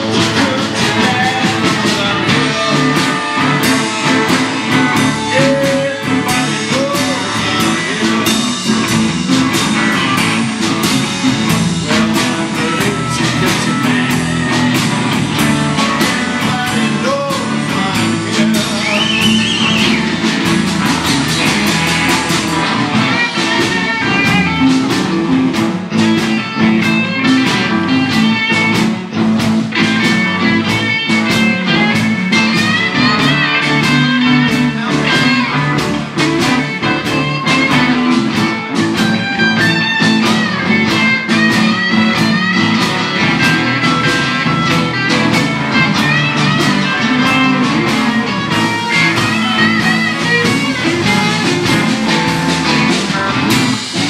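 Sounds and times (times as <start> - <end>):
electric blues band playing: 0.0 - 54.0
lead guitar line bending: 0.0 - 54.0.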